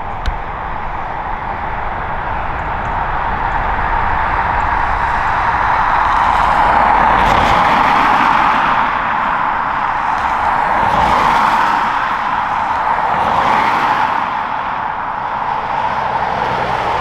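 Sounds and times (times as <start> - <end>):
jet engines at takeoff power: 0.0 - 17.0.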